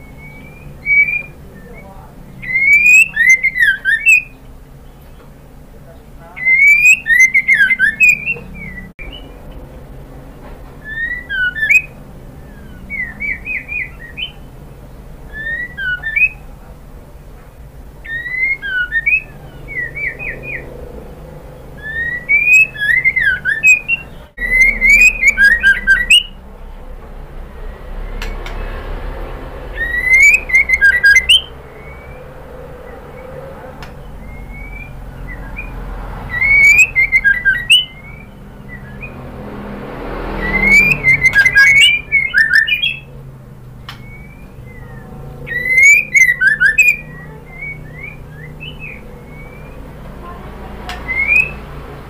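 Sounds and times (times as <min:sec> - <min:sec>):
bird whistled calls: 0:00.0 - 0:05.3, 0:06.4 - 0:09.4, 0:10.8 - 0:14.6, 0:15.3 - 0:16.6, 0:18.0 - 0:26.4, 0:29.6 - 0:39.3, 0:40.1 - 0:43.2, 0:43.8 - 0:50.0, 0:50.9 - 0:52.0.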